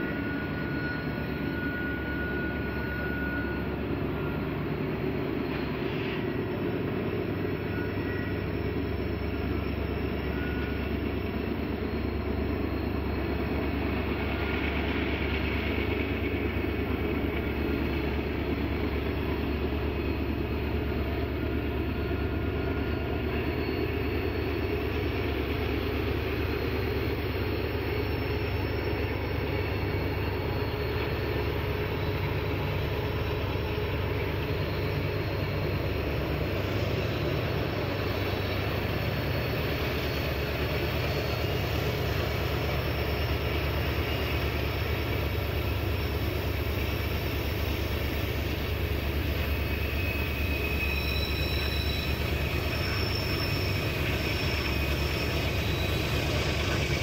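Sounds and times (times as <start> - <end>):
diesel locomotive engines rumbling: 0.0 - 57.0.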